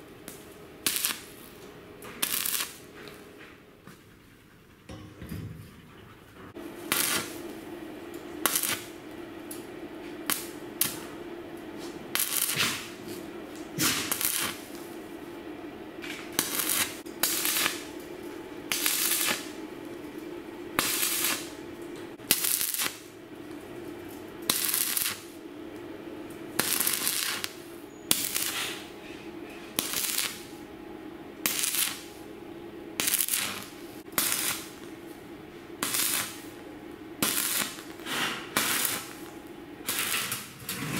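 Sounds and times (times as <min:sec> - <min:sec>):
welding arc crackling: 0:00.0 - 0:02.9, 0:06.6 - 0:15.4, 0:16.0 - 0:29.0, 0:29.8 - 0:30.7, 0:31.4 - 0:32.3, 0:33.0 - 0:40.8
steady low hum: 0:00.0 - 0:40.9.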